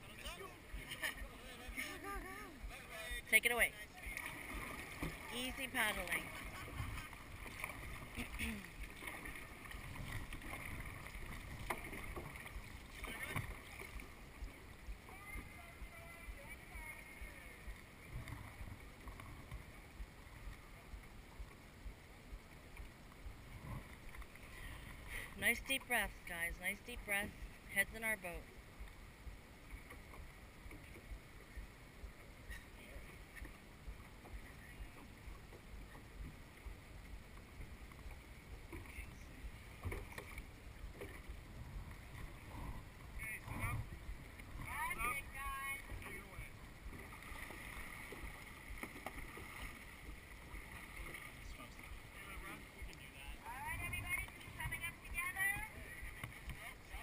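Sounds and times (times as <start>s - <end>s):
irregular low rumble: 0.0s - 57.0s
paddles dipping in water: 0.0s - 57.0s
water washing along hull: 0.0s - 57.0s.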